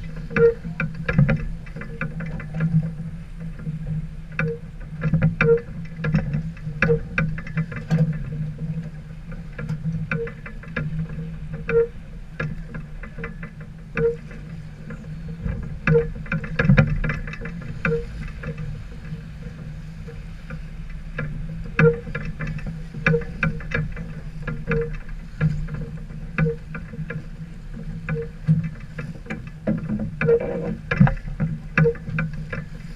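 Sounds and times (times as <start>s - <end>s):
clunks and knocks: 0.0s - 32.9s
water noise: 0.0s - 32.9s.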